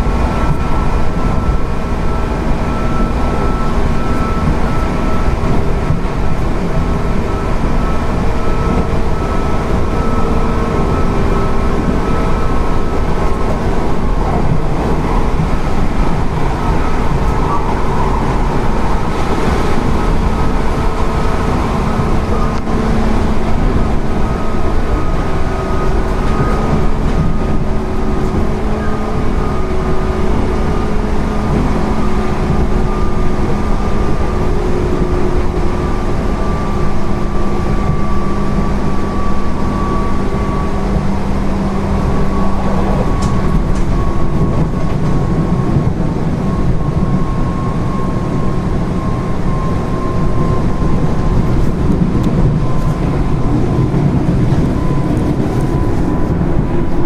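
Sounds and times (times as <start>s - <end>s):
traction motor hum and whine: 0.0s - 57.0s
train wheels rumbling on rail: 0.0s - 57.0s.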